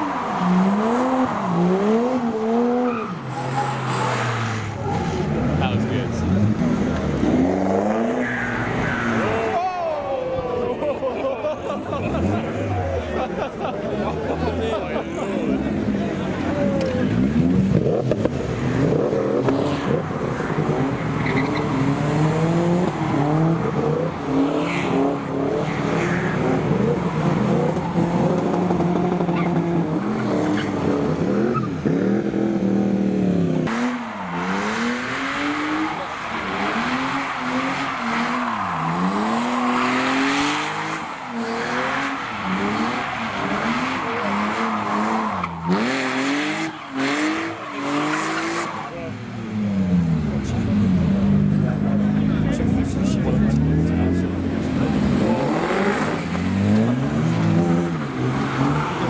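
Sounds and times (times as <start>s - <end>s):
car engine revving: 0.0s - 9.6s, 14.1s - 59.0s.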